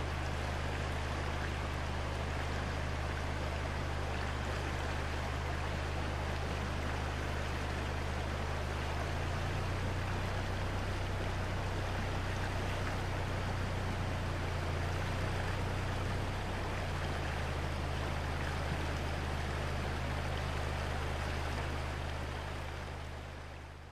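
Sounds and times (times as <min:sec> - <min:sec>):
river water rushing: 0:00.0 - 0:23.9.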